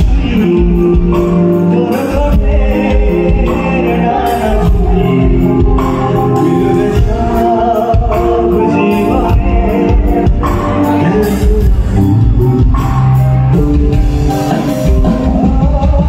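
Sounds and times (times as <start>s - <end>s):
band with steady beat: 0.0s - 16.0s
man singing into a microphone: 0.0s - 16.0s.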